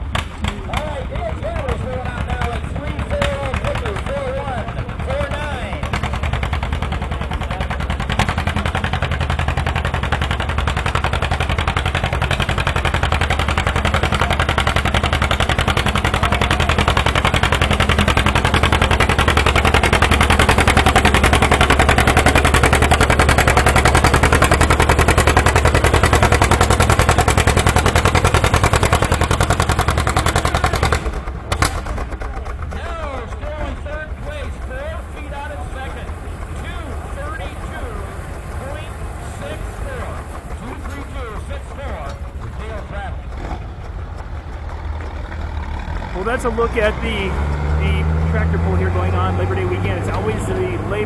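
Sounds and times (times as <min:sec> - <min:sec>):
unmuffled tractor engine roaring: 0:00.0 - 0:51.0.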